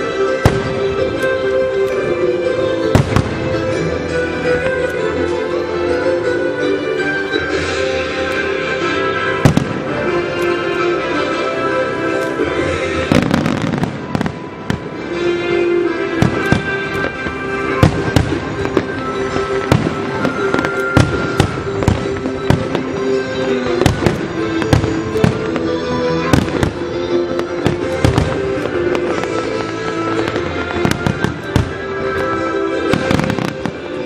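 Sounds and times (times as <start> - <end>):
fireworks bursting: 0.0 - 5.6, 7.2 - 34.0
music playing: 0.0 - 34.0.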